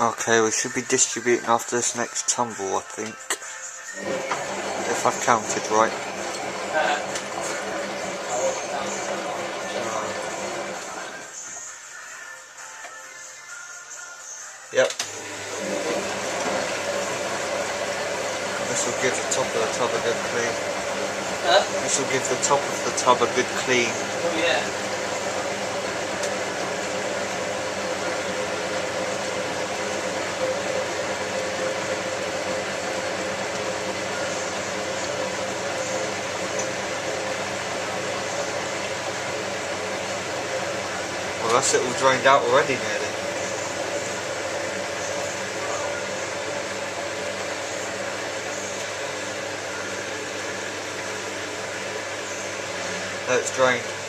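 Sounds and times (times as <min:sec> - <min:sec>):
washing machine motor hum: 0:00.0 - 0:03.1, 0:03.9 - 0:12.0, 0:14.8 - 0:54.0.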